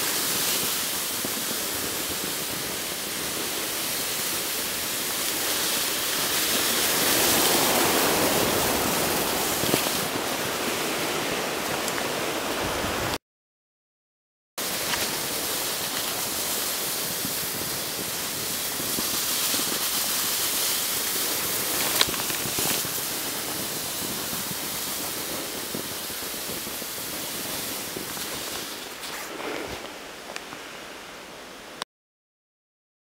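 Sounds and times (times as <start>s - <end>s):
skis hissing over snow: 0.0s - 13.2s, 14.6s - 31.4s.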